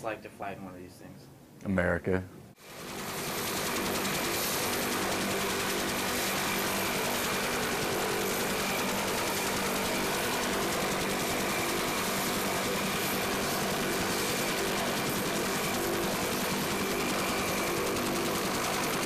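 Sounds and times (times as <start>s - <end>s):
helicopter engines and rotors: 2.6s - 19.0s
high turbine whine: 2.6s - 19.0s.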